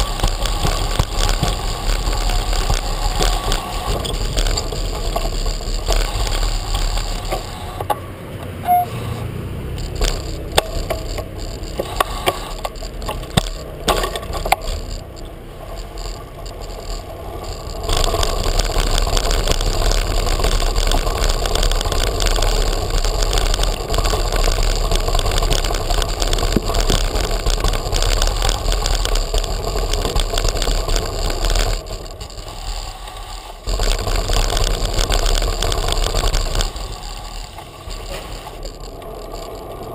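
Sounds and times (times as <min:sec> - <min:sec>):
bike and camera mount rattling: 0:00.0 - 0:08.0, 0:09.8 - 0:39.9
bicycle tyres rumbling on cobblestones: 0:00.0 - 0:08.1, 0:09.3 - 0:39.9
sharp clicks and knocks: 0:00.0 - 0:08.9, 0:09.7 - 0:39.9.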